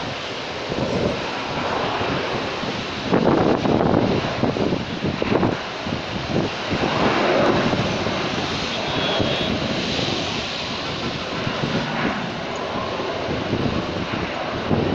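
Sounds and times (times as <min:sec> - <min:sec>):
distant jet engines rushing: 0:00.0 - 0:14.9.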